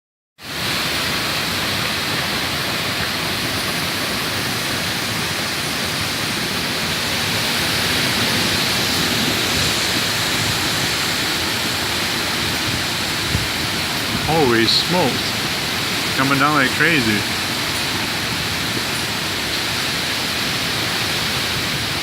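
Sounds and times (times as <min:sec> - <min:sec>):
heavy rain pouring: 0:00.4 - 0:22.0.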